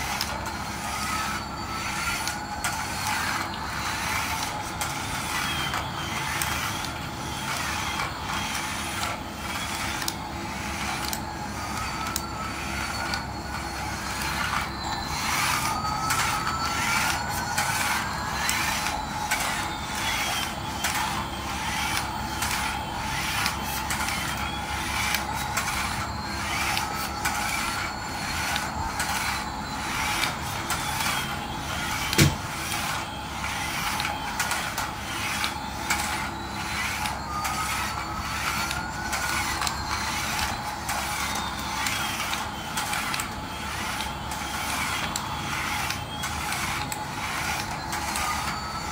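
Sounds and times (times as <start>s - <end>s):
toy motor and gears whirring: 0.0s - 48.9s.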